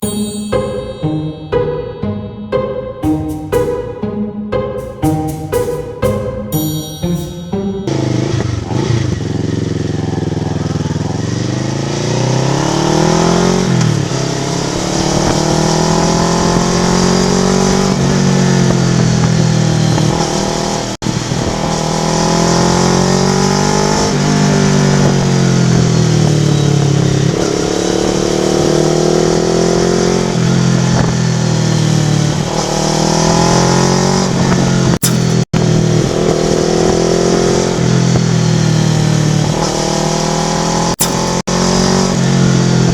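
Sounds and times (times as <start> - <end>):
motorcycle engine revving: 7.9 - 42.9.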